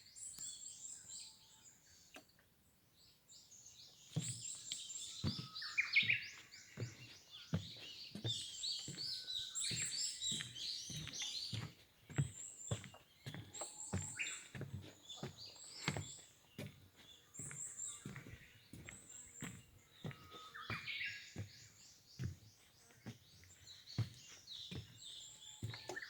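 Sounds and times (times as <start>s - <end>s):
small birds chirping and twittering: 0.0s - 26.0s
footsteps on forest trail: 4.0s - 26.0s.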